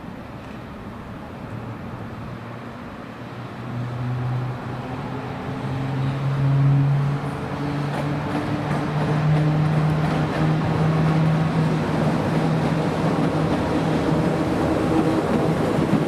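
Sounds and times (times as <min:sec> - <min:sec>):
electric locomotive hum: 0:00.0 - 0:16.0.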